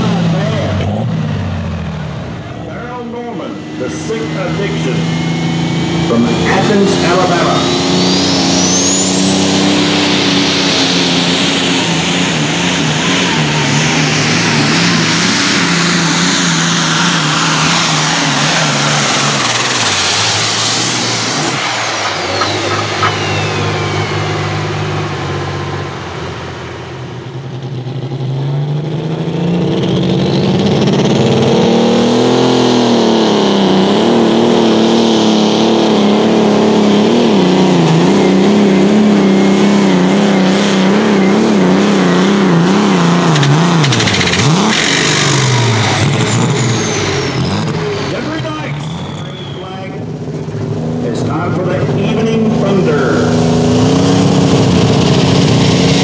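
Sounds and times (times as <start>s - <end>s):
tractor engine drone: 0.0s - 56.0s
turbo whine: 1.6s - 28.2s, 36.0s - 56.0s.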